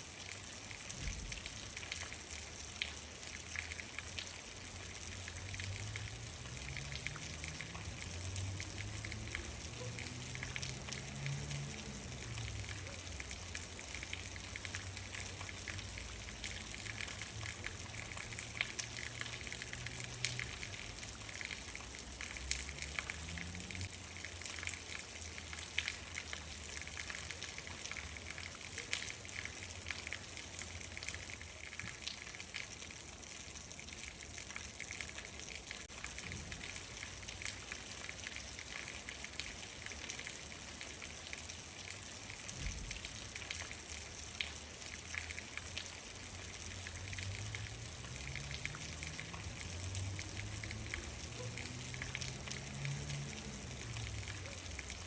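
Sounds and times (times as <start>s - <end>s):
rain drops tapping hard surface: 0.2s - 55.0s.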